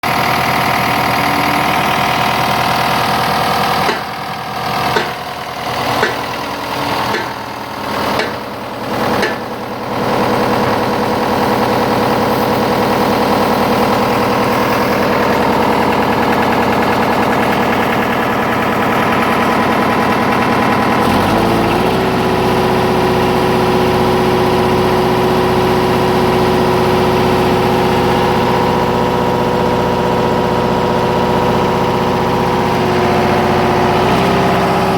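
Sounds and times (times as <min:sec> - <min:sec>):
diesel generator running: 0:00.0 - 0:34.9.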